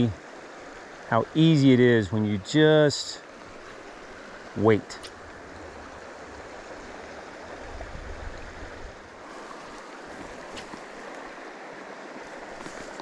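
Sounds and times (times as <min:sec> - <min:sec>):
shallow stream running: 0:00.0 - 0:13.0.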